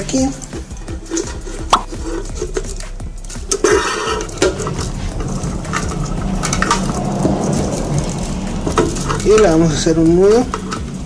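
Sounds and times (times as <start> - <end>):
cable rustling: 0.0 - 11.0.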